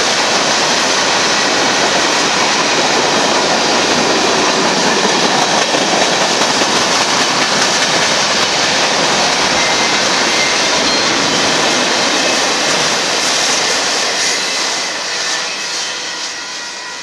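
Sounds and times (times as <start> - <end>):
steel wheels on rails: 0.0 - 17.0.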